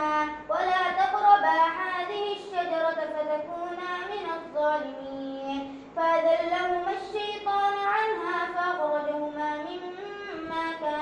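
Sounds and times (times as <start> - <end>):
boy chanting melodically: 0.0 - 11.0.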